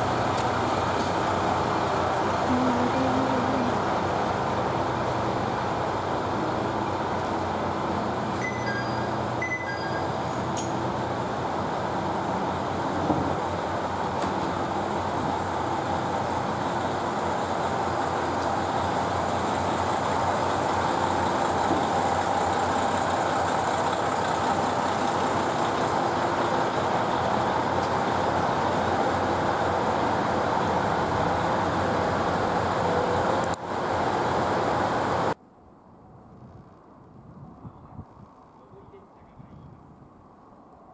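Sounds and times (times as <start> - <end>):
diesel railcar engine and rolling: 0.0 - 40.9.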